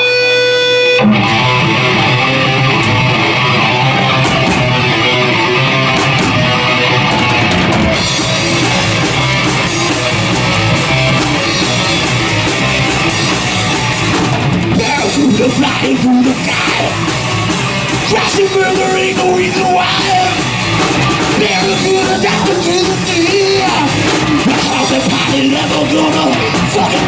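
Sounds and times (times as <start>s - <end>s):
drum kit: 0.0s - 27.0s
electric guitar: 0.0s - 27.0s.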